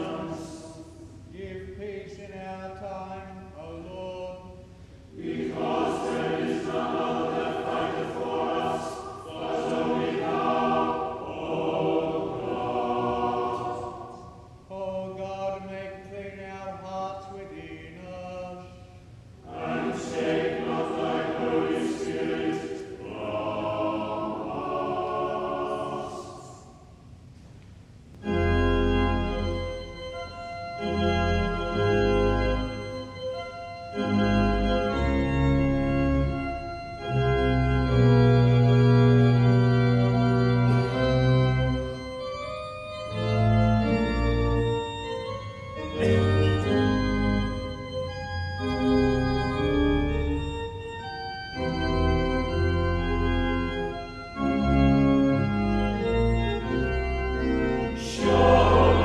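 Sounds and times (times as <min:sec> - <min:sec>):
church organ chords: 0:00.0 - 0:26.8, 0:28.1 - 0:59.0.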